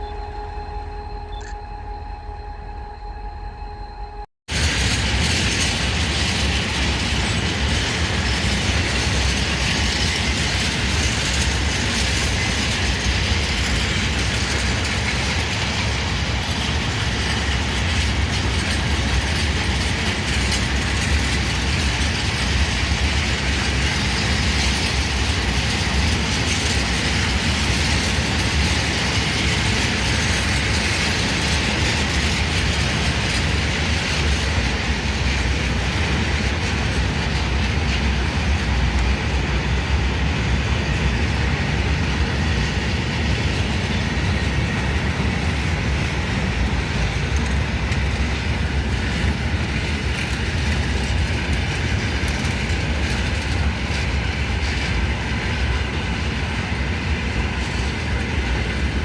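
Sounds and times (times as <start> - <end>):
freight train wagons rumbling past: 0.0 - 59.0.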